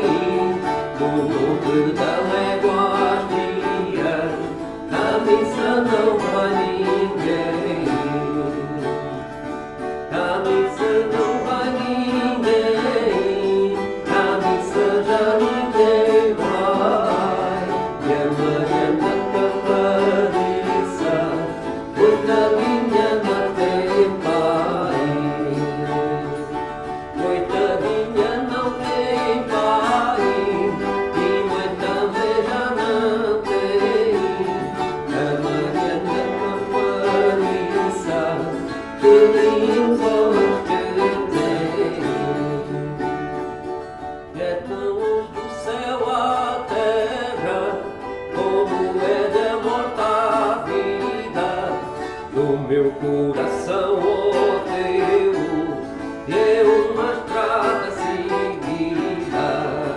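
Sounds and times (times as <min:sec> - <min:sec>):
man singing: 0:00.0 - 0:43.6, 0:44.3 - 0:59.9
plucked and strummed strings: 0:00.0 - 0:59.9.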